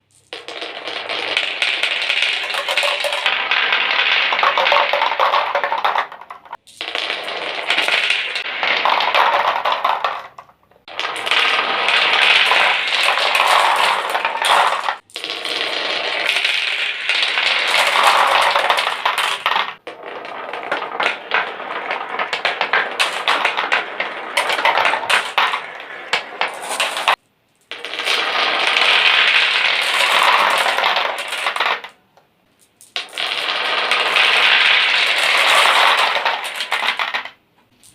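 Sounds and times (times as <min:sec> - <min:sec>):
marbles clattering down a run: 0:00.1 - 0:32.0, 0:32.7 - 0:37.9.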